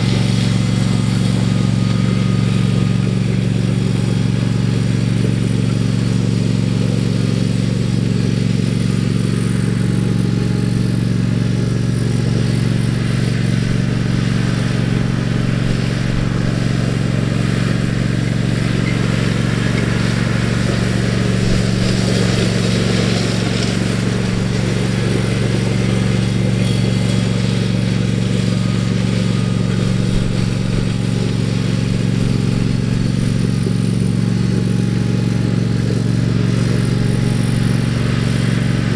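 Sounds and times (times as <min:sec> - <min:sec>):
small tractor engine humming: 0:00.0 - 0:38.9.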